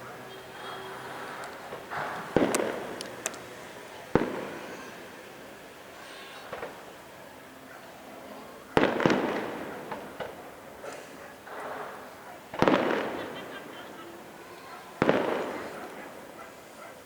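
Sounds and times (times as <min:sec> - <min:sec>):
firework crackles: 0:00.0 - 0:16.8
fireworks bangs echoing: 0:00.0 - 0:17.0.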